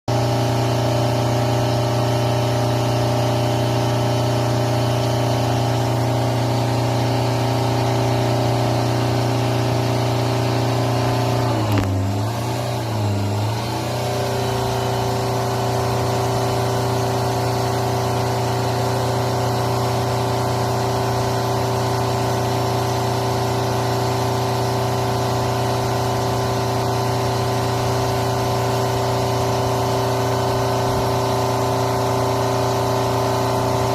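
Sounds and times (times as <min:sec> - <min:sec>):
car engine at high revs: 0:00.1 - 0:33.9.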